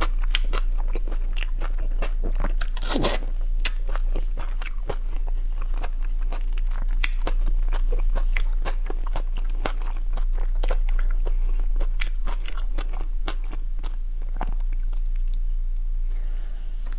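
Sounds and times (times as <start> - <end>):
chewing with wet crunching: 0.0 - 15.4
steady low hum: 0.0 - 16.9.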